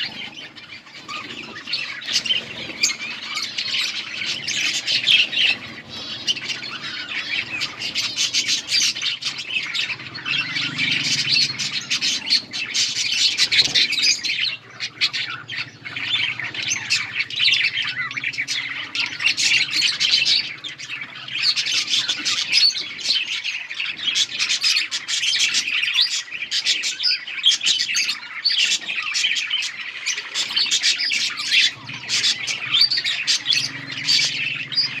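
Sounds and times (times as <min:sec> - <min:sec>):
budgerigars chirping and squawking: 0:00.0 - 0:35.0.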